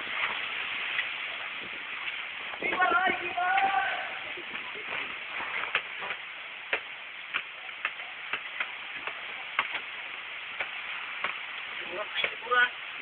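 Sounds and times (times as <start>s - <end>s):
wind rushing through trees: 0.0s - 13.0s.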